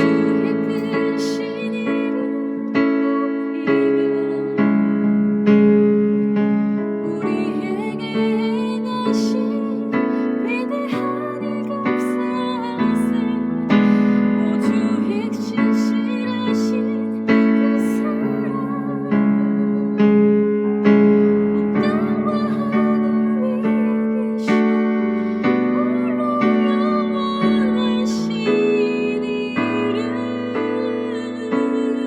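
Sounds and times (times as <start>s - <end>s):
keyboard playing hymn chords: 0.0s - 32.0s.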